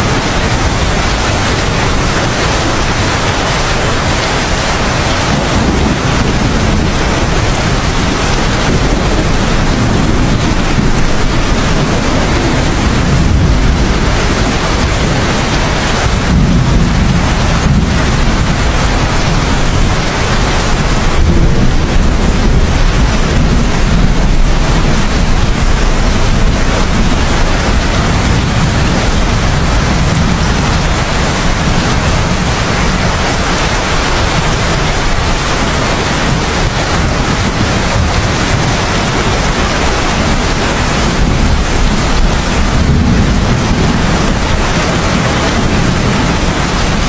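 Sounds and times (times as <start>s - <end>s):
deep low rumble: 0.0s - 47.0s
heavy rain pouring: 0.0s - 47.0s.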